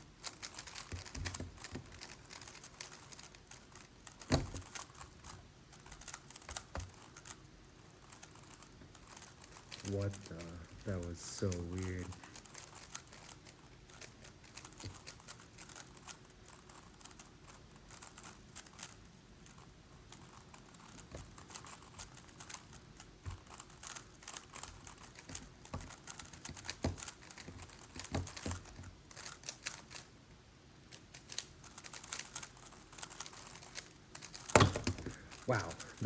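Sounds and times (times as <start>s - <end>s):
plastic puzzle clicking as turned: 0.0s - 30.1s, 30.9s - 36.0s.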